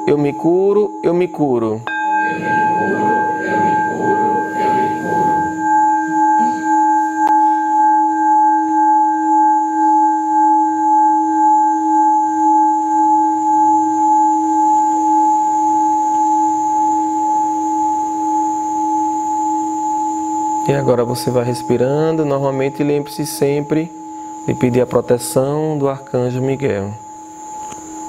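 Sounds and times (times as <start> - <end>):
singing bowl ringing: 0.0 - 28.0.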